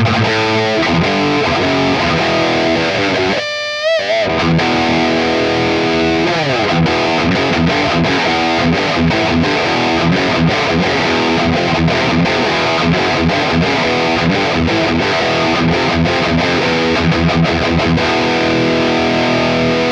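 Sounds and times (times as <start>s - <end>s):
distorted electric guitar: 0.0s - 19.9s.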